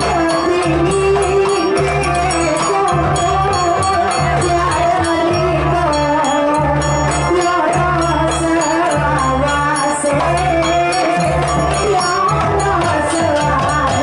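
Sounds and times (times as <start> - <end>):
large drums and frame drums: 0.0 - 14.0.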